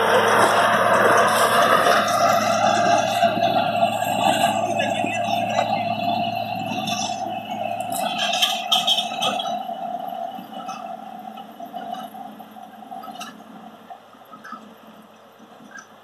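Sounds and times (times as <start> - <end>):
tractor and baler droning: 0.0 - 16.0.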